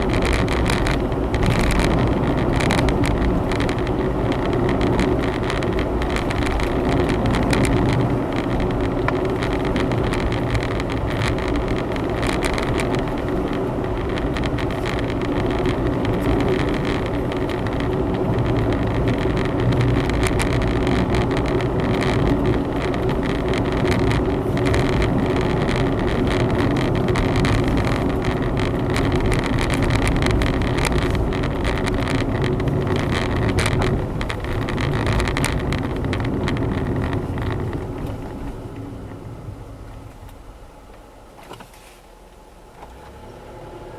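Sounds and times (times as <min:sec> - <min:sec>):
car engine running: 0:00.0 - 0:43.9
tyre and road rumble: 0:00.0 - 0:43.9.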